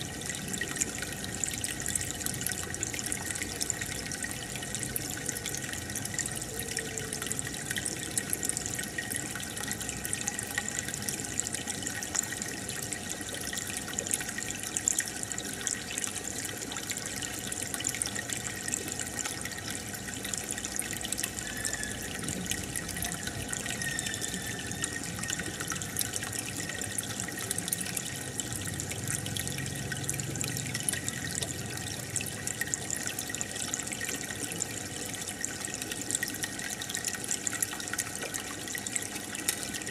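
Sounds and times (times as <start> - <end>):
aquarium bubbling: 0.0 - 39.9
water trickling and dripping: 0.0 - 39.9.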